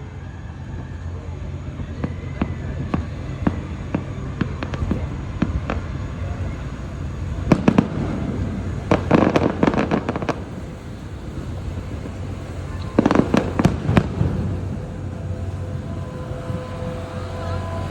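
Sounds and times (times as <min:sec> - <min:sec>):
low rumble: 0:00.0 - 0:17.9
fireworks bangs and cracks: 0:01.8 - 0:17.8.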